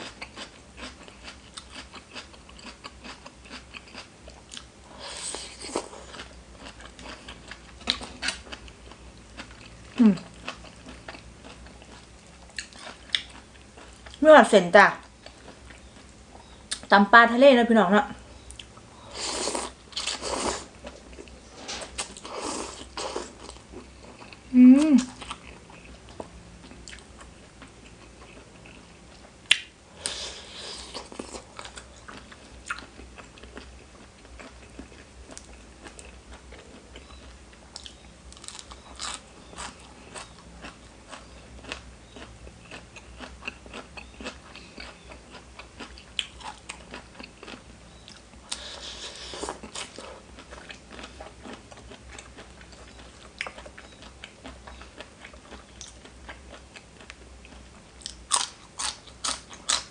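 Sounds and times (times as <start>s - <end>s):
close-miked crunchy chewing: 0.0s - 14.3s, 14.9s - 16.9s, 18.4s - 59.9s.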